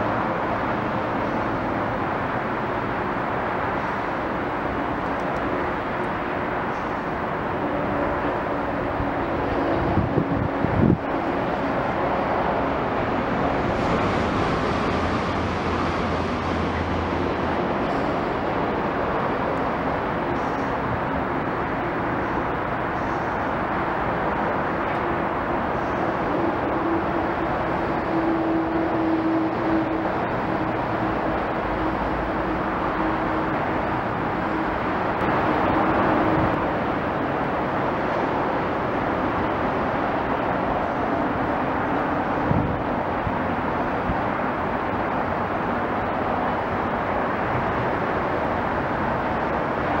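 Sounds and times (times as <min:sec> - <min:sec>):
low engine drone: 0:00.0 - 0:50.0
outdoor rumble of engines: 0:00.0 - 0:50.0
road traffic rushing: 0:00.0 - 0:50.0.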